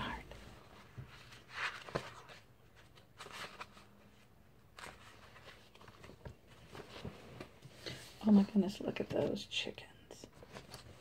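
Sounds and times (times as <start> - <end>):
book pages rustling: 0.0 - 9.3, 10.3 - 11.0.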